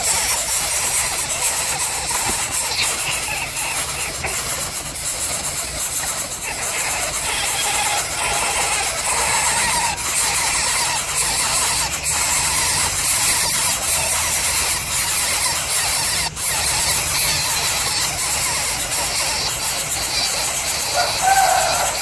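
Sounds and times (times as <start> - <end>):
chick squealing begging calls: 0.0 - 22.0.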